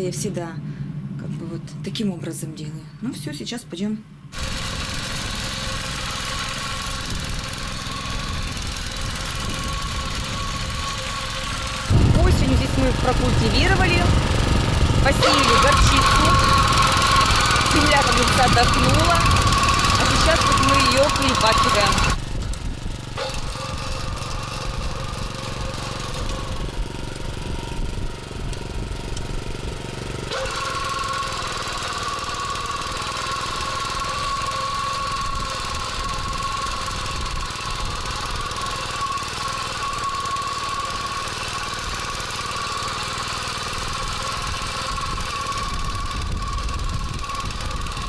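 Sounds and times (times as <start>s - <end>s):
motor cultivator engine drone: 4.2s - 48.0s.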